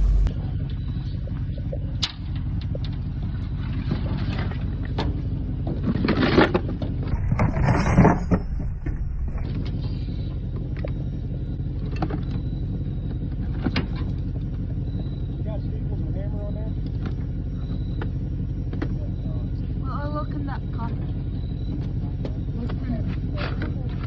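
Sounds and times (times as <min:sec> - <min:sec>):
pickup truck engine humming: 0:00.0 - 0:07.1, 0:08.7 - 0:24.0.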